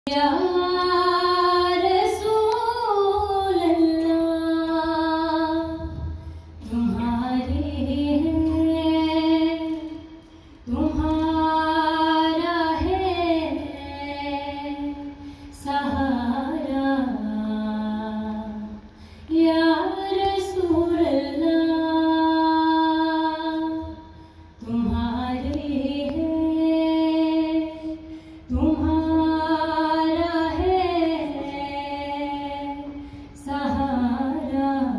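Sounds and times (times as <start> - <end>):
woman singing unaccompanied: 0.1 - 34.9
steady low hum: 0.3 - 34.9.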